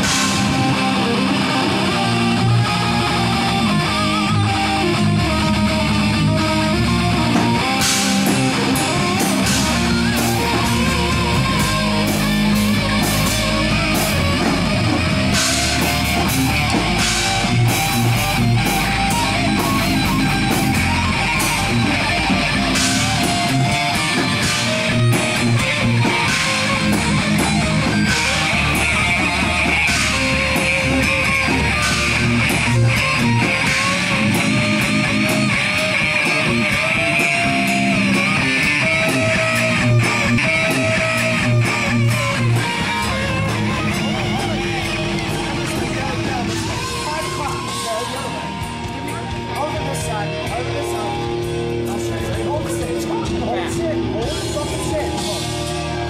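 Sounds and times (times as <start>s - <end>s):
live heavy metal band: 0.0s - 56.0s.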